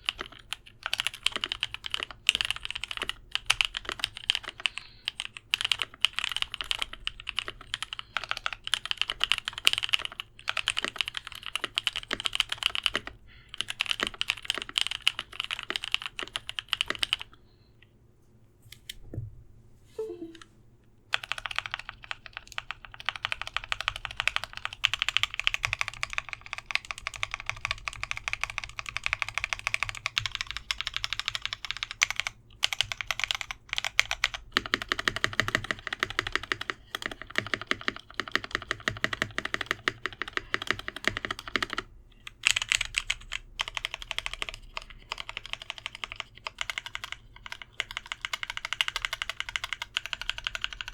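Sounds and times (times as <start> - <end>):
mechanical keyboard typing: 0.0 - 17.4, 21.1 - 50.9.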